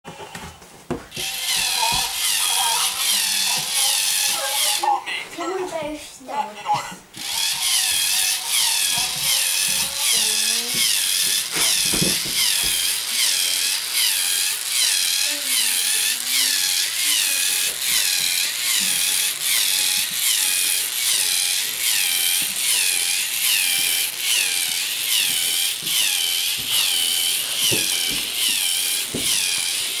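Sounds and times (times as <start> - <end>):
toy robot motor whine: 1.1 - 4.9, 7.2 - 30.0.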